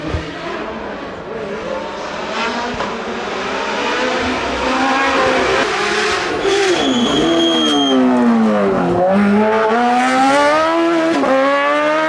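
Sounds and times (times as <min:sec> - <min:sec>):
race car engine shifting gears: 0:00.0 - 0:12.0.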